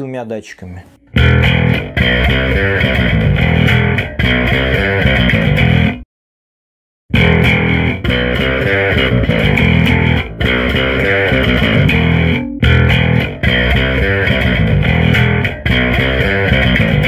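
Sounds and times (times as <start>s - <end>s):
distorted electric bass riff: 1.0s - 6.0s, 7.1s - 17.0s.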